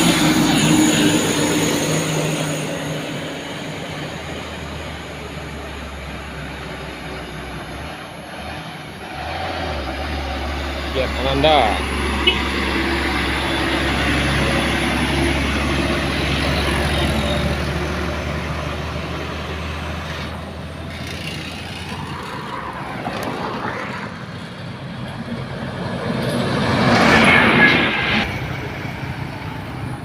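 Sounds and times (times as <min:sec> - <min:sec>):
diesel truck engine under load: 0:00.0 - 0:27.6
vehicle noise: 0:00.0 - 0:30.0.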